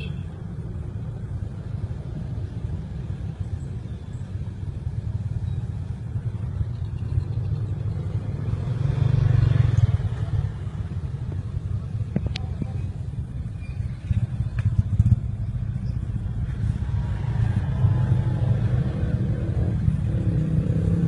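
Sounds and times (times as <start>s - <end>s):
road vehicle rumble: 0.0s - 21.0s.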